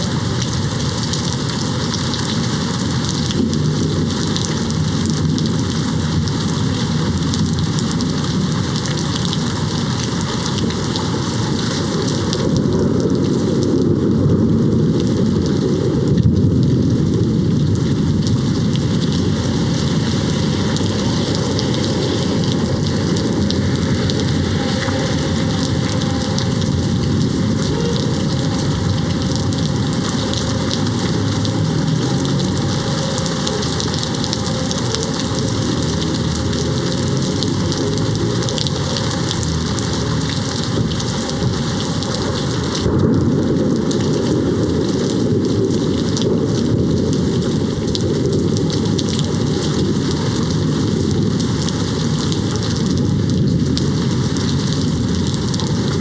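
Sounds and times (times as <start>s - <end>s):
heavy rain hitting a window: 0.0s - 56.0s
low thunder rumble: 0.0s - 56.0s.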